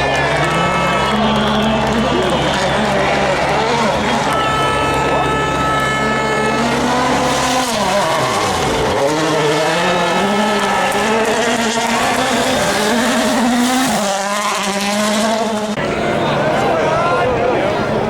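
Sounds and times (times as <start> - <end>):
rally car engine revving: 0.0 - 16.6.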